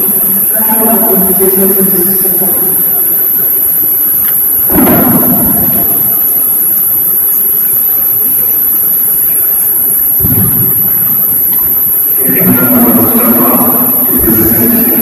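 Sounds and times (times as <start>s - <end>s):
constant hiss: 0.0s - 15.0s
high-pitched electronic whine: 0.0s - 15.0s.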